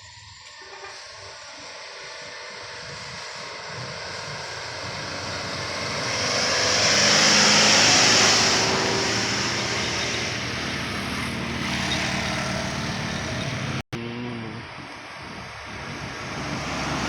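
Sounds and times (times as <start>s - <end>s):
steady engine drone: 0.1s - 17.0s
vehicle passing by: 1.4s - 17.0s.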